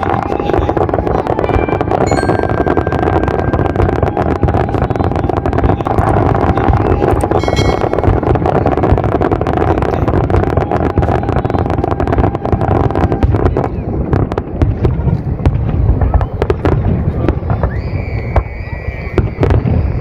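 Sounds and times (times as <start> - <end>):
fireworks cracking and popping: 0.0 - 20.0
steady rush of noise: 0.0 - 20.0.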